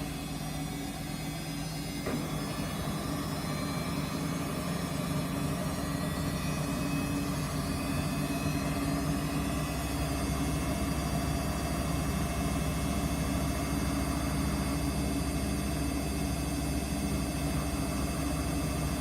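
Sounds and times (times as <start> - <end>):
washing machine motor humming: 0.0 - 19.0.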